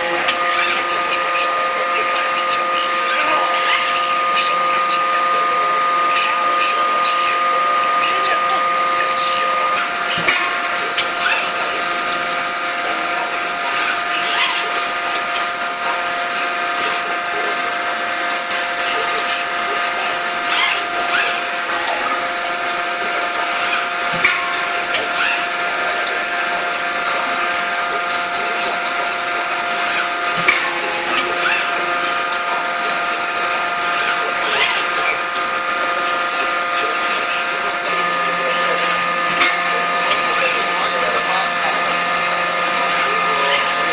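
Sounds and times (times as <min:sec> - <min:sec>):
machinery droning: 0:00.0 - 0:43.9.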